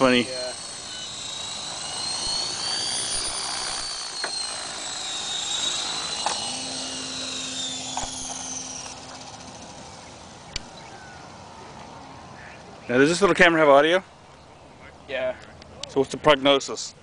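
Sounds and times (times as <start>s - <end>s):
rc helicopter motor whine: 0.0s - 17.0s.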